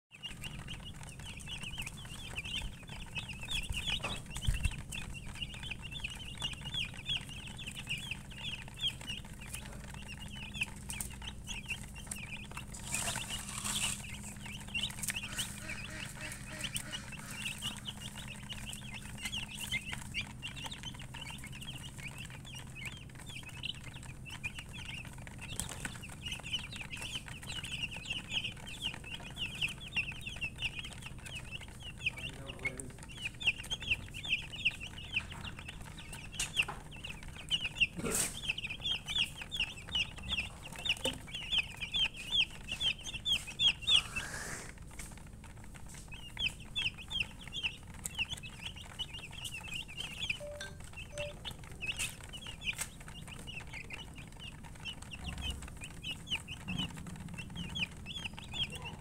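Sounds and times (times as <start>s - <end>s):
chicks peeping: 0.1s - 59.0s.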